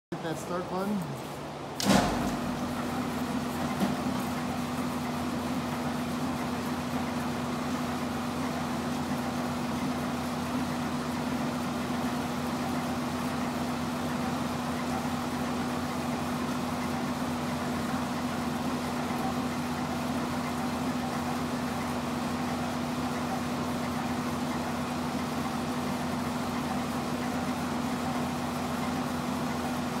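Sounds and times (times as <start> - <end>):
granulator motor humming: 0.1 - 30.0.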